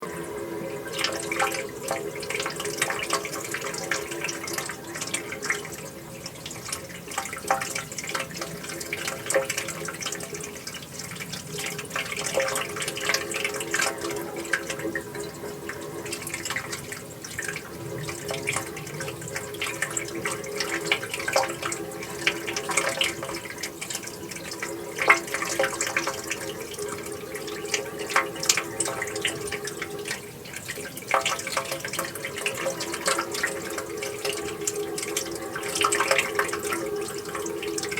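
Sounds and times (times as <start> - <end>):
running water with splashes: 0.0 - 37.9.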